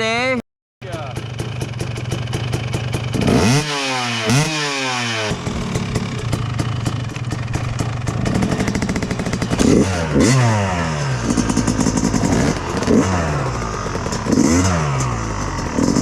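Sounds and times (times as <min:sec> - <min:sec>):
dirt bike engine idling: 0:00.8 - 0:16.0.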